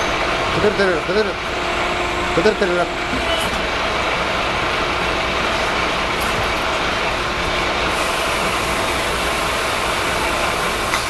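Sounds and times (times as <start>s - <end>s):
hydraulic machine running: 0.0s - 11.0s.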